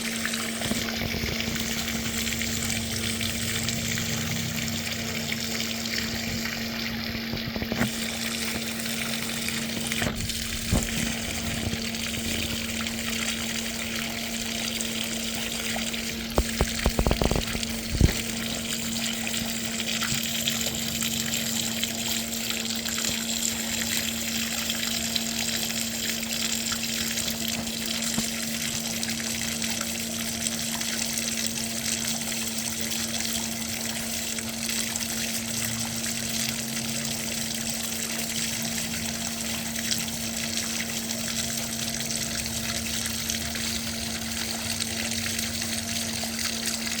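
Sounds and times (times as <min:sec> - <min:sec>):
low pump hum: 0:00.0 - 0:47.0
water gushing from pipe: 0:00.0 - 0:47.0.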